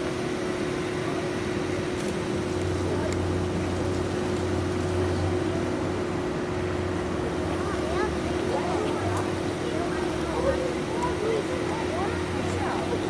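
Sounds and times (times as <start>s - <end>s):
outdoor background noise: 0.0s - 13.0s
steady mechanical hum: 0.0s - 13.0s.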